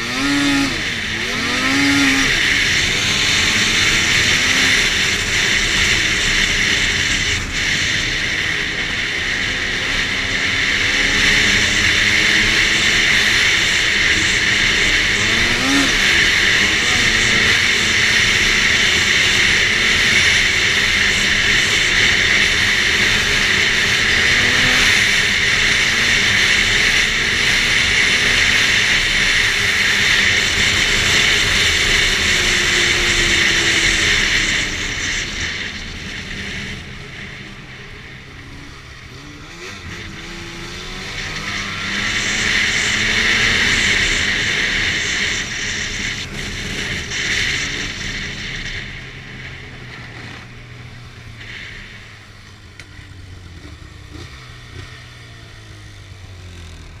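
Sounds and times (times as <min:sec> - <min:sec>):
track noise: 0:00.0 - 0:54.8
snowmobile engine running: 0:00.0 - 0:57.0.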